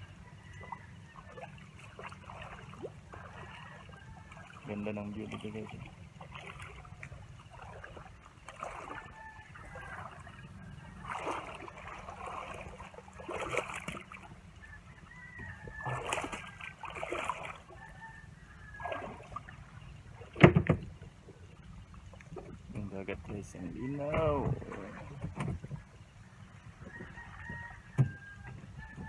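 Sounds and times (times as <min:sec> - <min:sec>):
feet wading through shallow water: 0:00.0 - 0:29.0.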